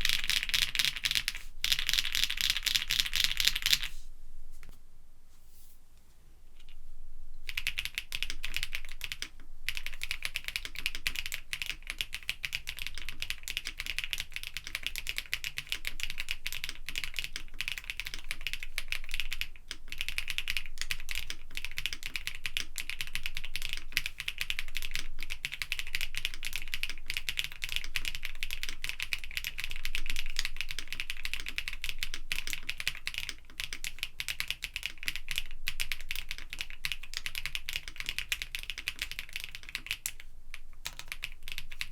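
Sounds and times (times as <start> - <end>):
fast typing on mechanical keyboard: 0.0 - 3.9, 7.5 - 41.9.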